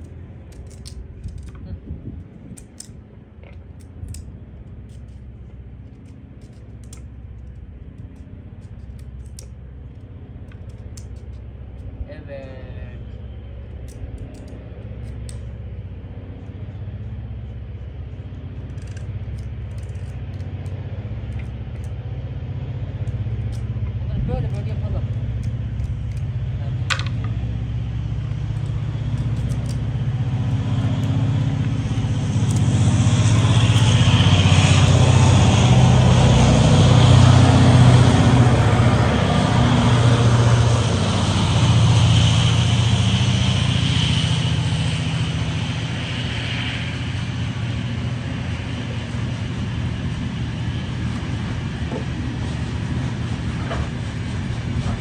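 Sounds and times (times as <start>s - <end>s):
high metallic whine: 0.0s - 55.0s
train rumble: 0.0s - 55.0s.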